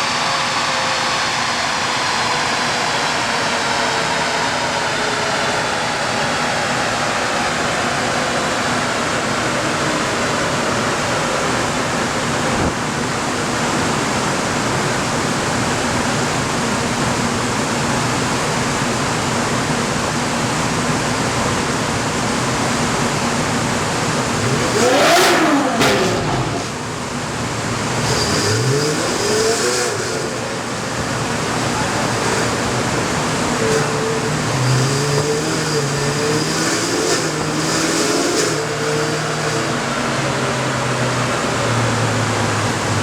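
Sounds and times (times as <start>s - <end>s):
car engine roaring on dyno: 0.0s - 43.0s.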